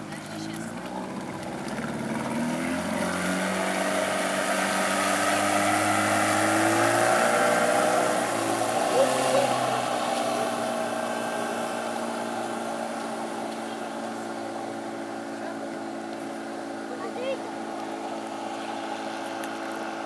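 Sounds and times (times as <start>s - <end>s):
outboard motor running: 0.0s - 20.0s
hiss of boat wake: 2.8s - 20.0s.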